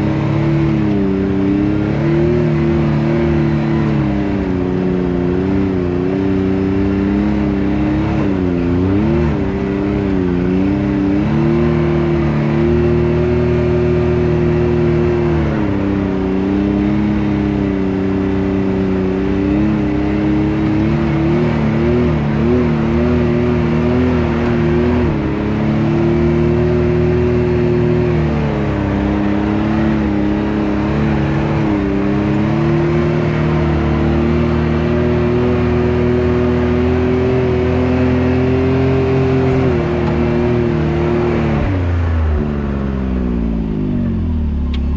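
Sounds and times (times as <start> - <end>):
engine running at low revs: 0.0 - 44.9.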